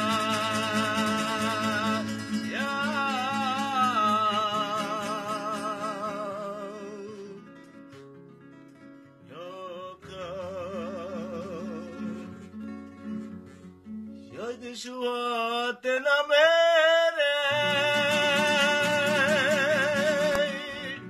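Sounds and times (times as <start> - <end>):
person singing with vibrato: 0.0 - 7.5, 9.3 - 12.7, 14.3 - 21.0
acoustic guitar: 0.0 - 21.0.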